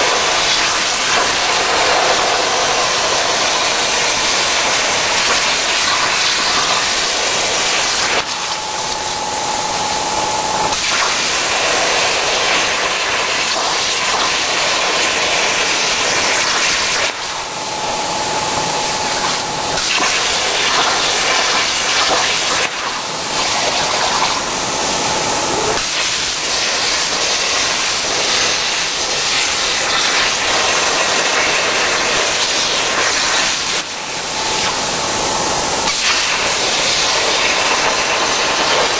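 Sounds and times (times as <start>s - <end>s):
plasma torch hissing: 0.0s - 38.9s.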